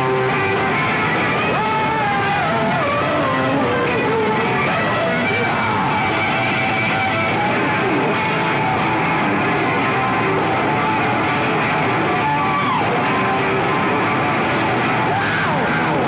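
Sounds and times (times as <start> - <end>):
guitar note sliding down: 0.0 - 16.0
heavy metal band playing: 0.0 - 16.0.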